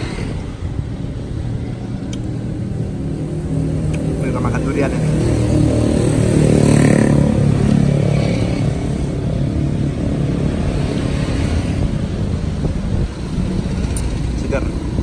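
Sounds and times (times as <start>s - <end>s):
low traffic rumble: 0.0s - 15.0s
vehicle engine passing: 0.0s - 15.0s.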